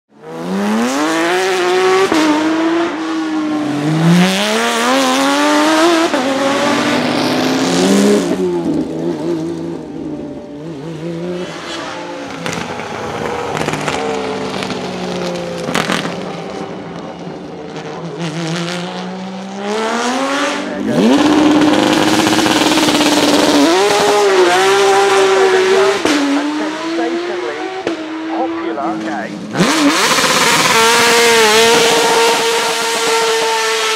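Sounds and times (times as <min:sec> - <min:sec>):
racing car engines at full throttle: 0:00.1 - 0:33.9.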